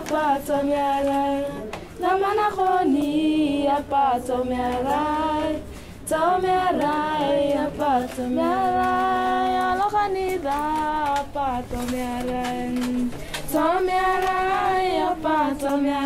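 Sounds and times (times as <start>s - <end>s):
woman singing unaccompanied: 0.0s - 16.0s.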